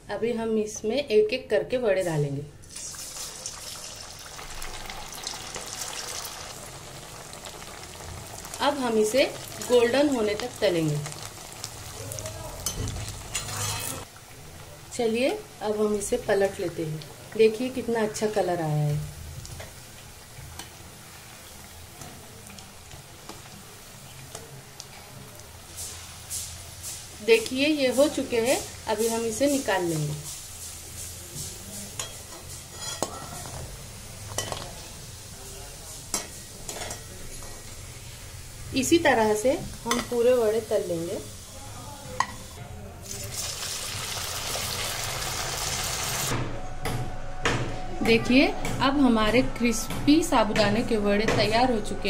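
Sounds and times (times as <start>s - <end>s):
food deep-frying in oil: 2.6s - 46.4s.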